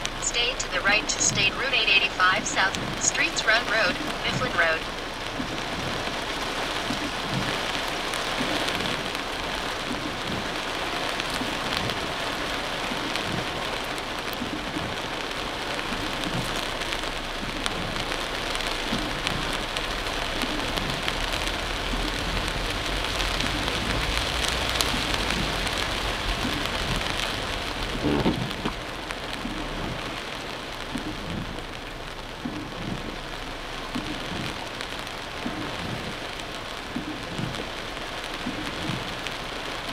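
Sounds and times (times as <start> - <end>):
low rumble: 0.0 - 39.6
heavy rain on car roof: 0.0 - 39.9.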